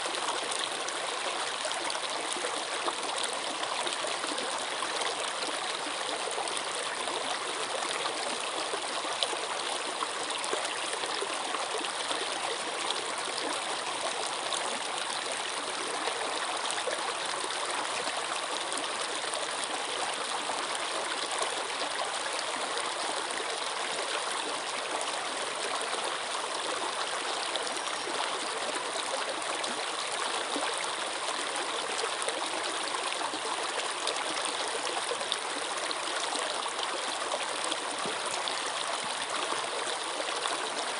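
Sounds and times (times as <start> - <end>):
water running over rocks: 0.0 - 40.9.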